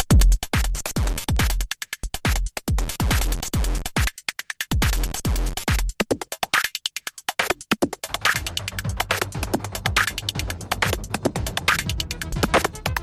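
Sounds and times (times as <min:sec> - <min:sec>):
kick drum: 0:00.0 - 0:06.2, 0:08.4 - 0:13.0
rapid hi-hats: 0:00.0 - 0:13.0
techno drum machine music: 0:00.0 - 0:13.0.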